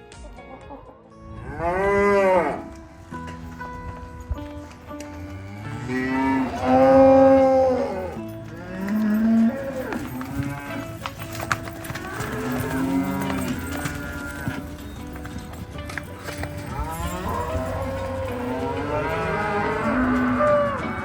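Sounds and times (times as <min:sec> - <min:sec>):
cows mooing: 0:01.3 - 0:03.4, 0:04.9 - 0:21.0.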